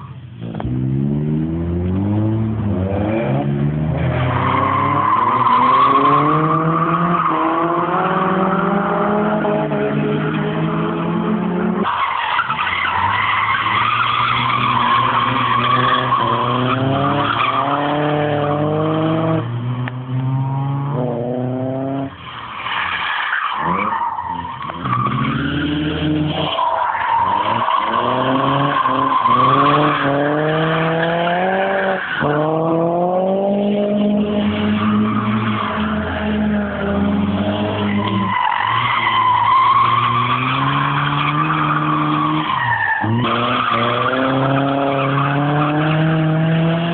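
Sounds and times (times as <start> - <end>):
car engine revving: 0.3 - 46.9.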